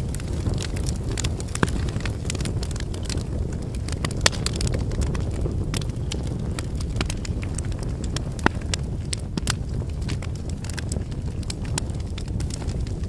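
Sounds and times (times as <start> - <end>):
firewood crackling and popping: 0.0 - 13.0
low rush of flame: 0.0 - 13.0.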